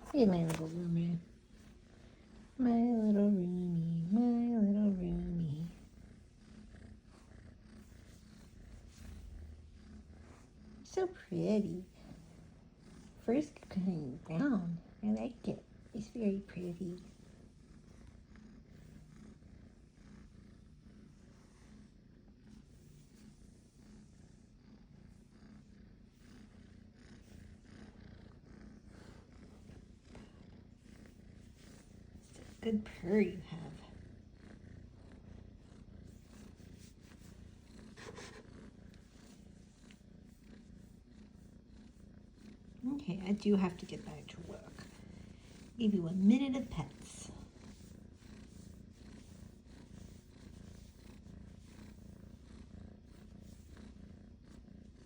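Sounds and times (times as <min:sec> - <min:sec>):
kitten purring: 0:00.0 - 0:55.0.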